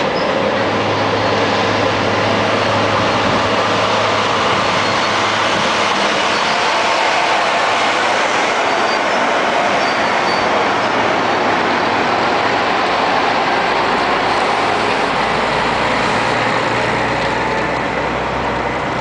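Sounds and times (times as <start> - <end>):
steady rushing noise: 0.0 - 19.0
truck diesel engine pulling away: 0.0 - 19.0.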